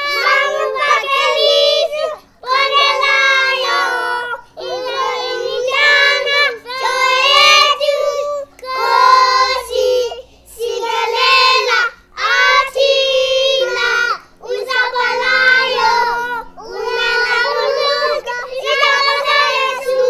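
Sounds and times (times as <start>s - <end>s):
children singing unaccompanied: 0.0s - 20.0s.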